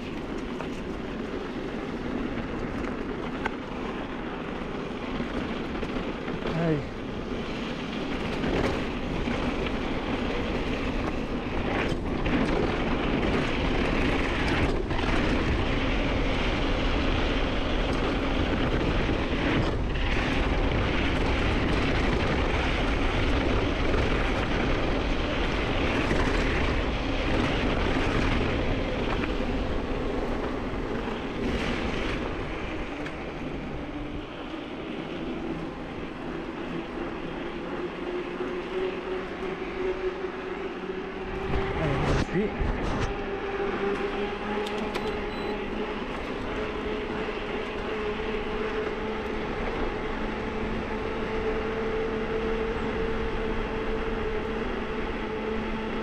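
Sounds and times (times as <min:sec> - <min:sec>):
mountain bike rumbling and rattling: 0:00.0 - 0:56.0
wind on microphone: 0:00.0 - 0:56.0.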